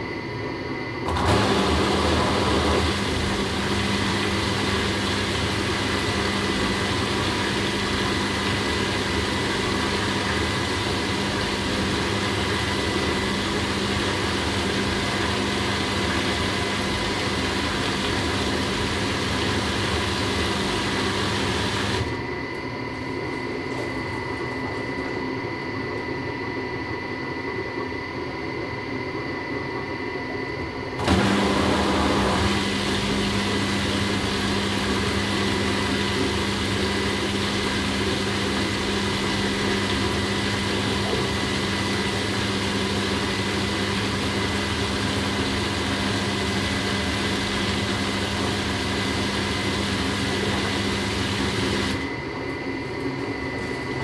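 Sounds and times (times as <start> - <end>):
washing machine running: 0.0 - 54.0.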